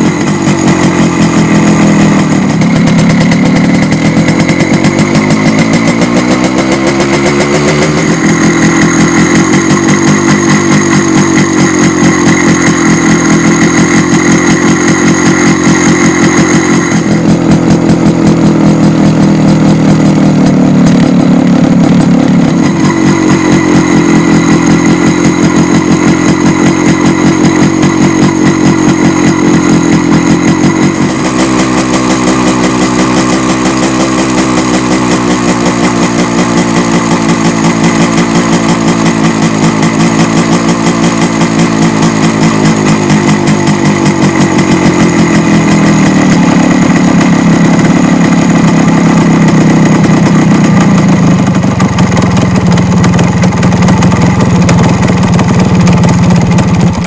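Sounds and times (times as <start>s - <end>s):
two-stroke engine idling: 0.0s - 57.0s.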